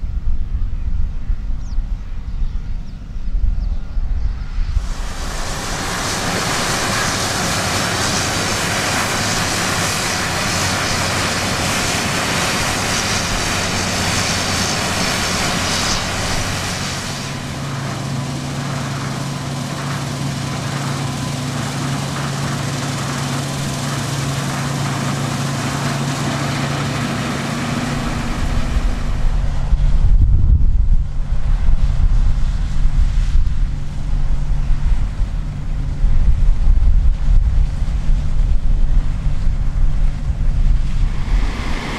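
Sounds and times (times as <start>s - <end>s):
engine hum: 0.0s - 41.9s
harvest machinery mechanical rush: 4.8s - 41.9s.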